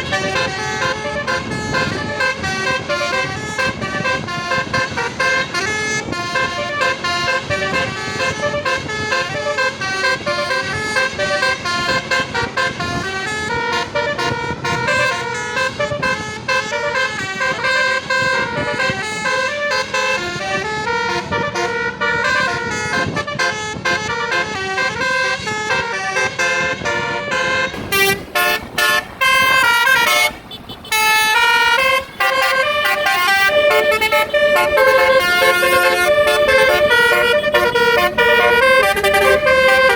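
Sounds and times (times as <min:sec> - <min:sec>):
musical bus horns melody: 0:00.0 - 0:39.9.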